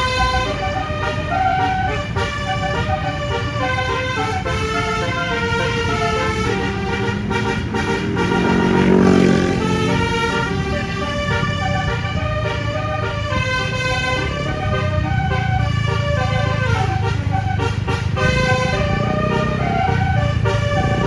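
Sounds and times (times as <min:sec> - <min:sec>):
engine and road noise: 0:00.0 - 0:21.0
multi-tone musical air horn: 0:00.0 - 0:21.0.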